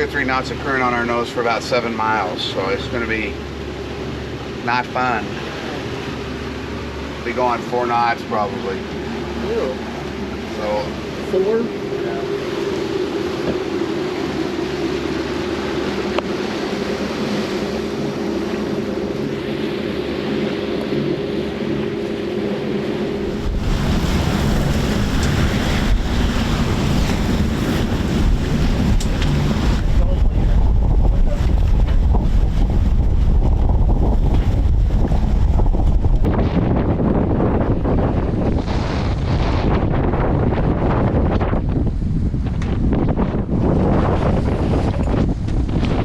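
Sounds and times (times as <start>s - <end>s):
boat engine hum: 0.0s - 46.0s
rushing water: 0.0s - 46.0s
waves and spray: 0.0s - 46.0s
wind buffeting microphone: 0.0s - 46.0s.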